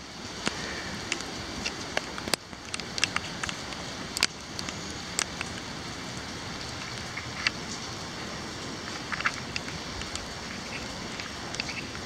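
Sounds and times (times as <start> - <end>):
raindrops ticking close by: 0.0 - 12.0
steady rain falling: 0.0 - 12.0.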